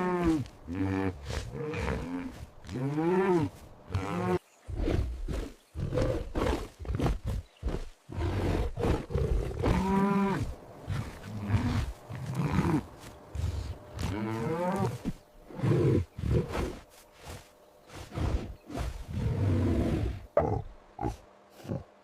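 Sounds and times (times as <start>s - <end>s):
animal growls and grunts: 0.0s - 22.0s.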